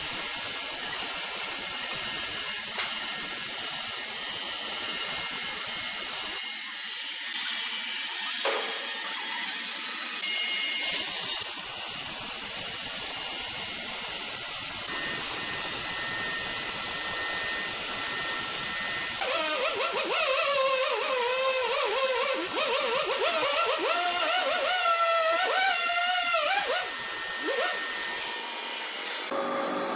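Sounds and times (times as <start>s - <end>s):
sawmill machinery hissing: 0.0s - 29.9s.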